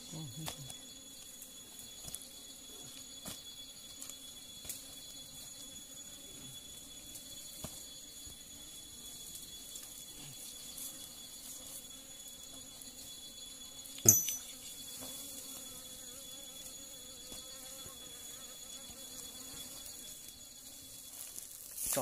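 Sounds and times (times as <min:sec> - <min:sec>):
forest insects droning: 0:00.0 - 0:22.0.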